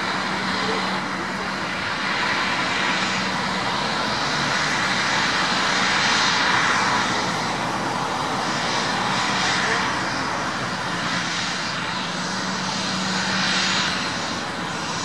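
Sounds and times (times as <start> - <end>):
jet engines hissing and rumbling: 0.0 - 15.0.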